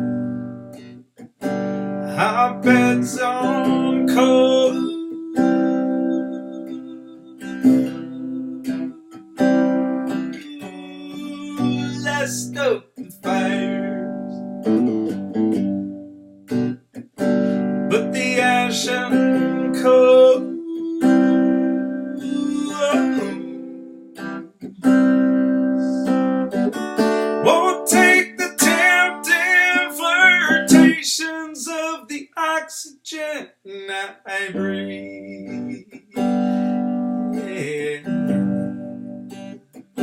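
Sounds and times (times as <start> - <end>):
acoustic guitar strumming chords: 0.0 - 31.9, 34.5 - 40.0
person singing: 1.7 - 14.6, 17.3 - 39.5.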